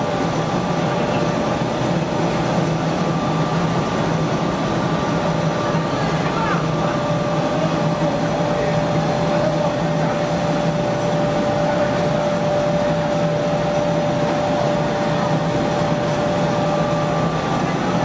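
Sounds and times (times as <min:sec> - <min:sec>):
mid-pitched machine whine: 0:00.0 - 0:18.0
roller mill running: 0:00.0 - 0:18.0.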